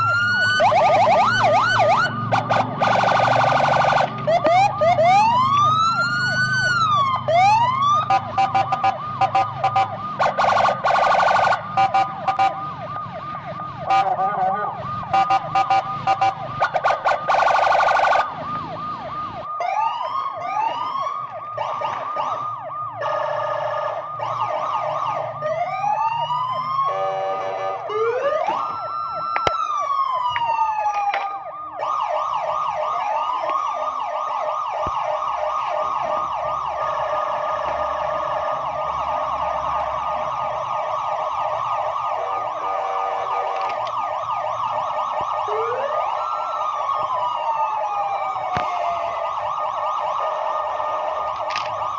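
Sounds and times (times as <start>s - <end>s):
toy police siren: 0.0s - 51.9s.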